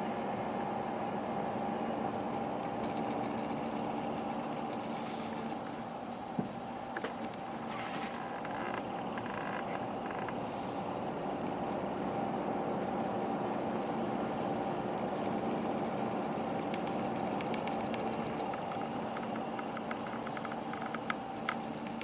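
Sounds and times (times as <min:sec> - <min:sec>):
cooling fan whirring: 0:00.0 - 0:22.0.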